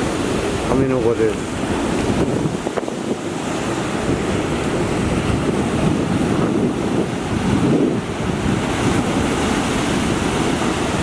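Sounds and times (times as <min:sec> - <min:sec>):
heavy surf breaking on beach: 0:00.0 - 0:11.0
wind buffeting microphone: 0:00.0 - 0:11.0.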